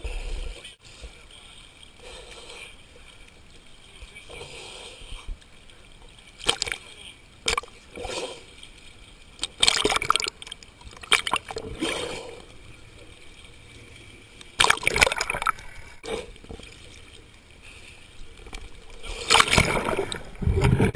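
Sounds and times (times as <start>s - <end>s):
sea water splashing and sloshing: 0.0s - 20.9s.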